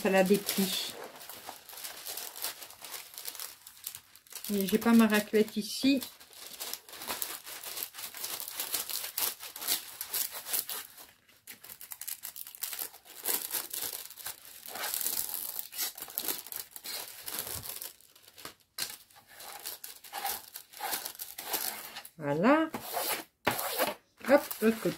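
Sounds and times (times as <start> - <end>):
paper sheet crinkling and rustling: 0.0 - 22.2, 22.8 - 24.9.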